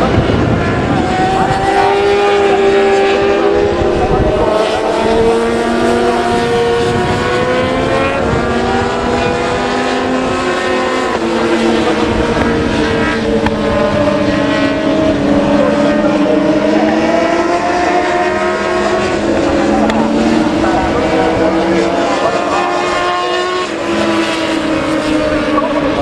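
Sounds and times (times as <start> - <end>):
racing motorcycles at high revs: 0.0 - 26.0.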